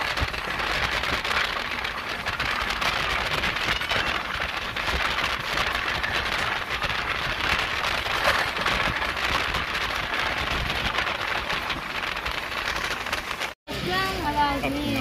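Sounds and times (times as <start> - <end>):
wind rushing: 0.0 - 13.9.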